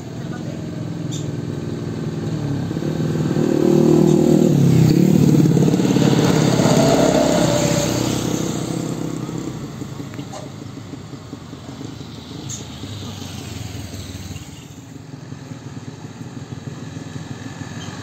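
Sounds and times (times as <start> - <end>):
motorcycle passing: 0.0 - 18.0.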